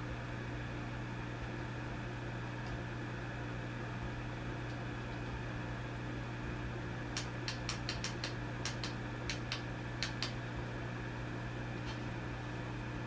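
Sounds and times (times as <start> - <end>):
amplifier mains hum: 0.0 - 13.0.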